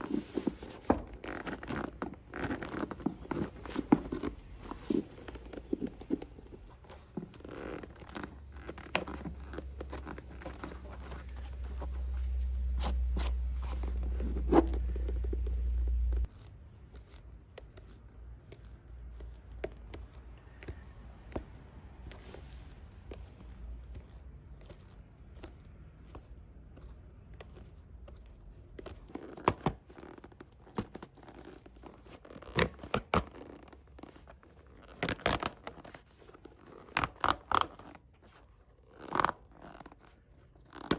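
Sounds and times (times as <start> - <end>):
scraping and tearing leather: 0.0 - 40.9
tools clicking on leather: 0.0 - 40.9.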